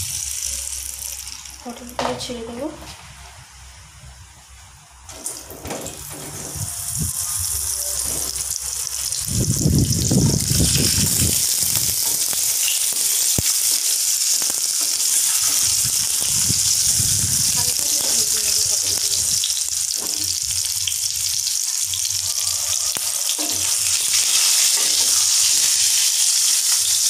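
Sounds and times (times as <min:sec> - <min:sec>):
oil sizzling: 0:00.0 - 0:02.5, 0:05.0 - 0:27.0.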